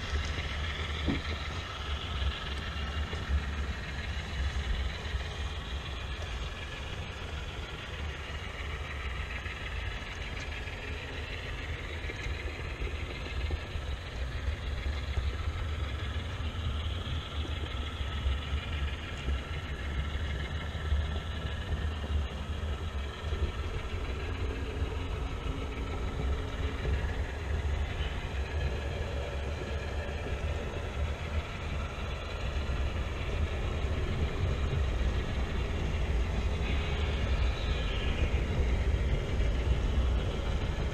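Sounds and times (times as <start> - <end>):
model train wheels rumbling on rails: 0.0 - 40.9.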